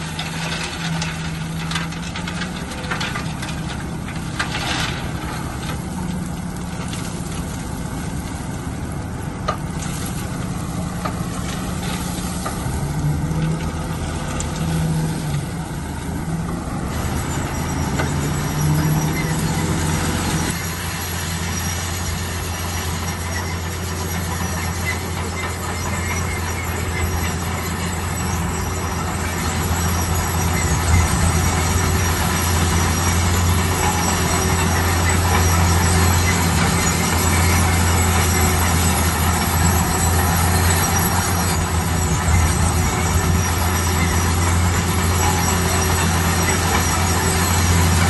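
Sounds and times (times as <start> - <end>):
diesel engine droning: 0.0 - 48.0
steel crawler tracks squealing: 0.0 - 48.0.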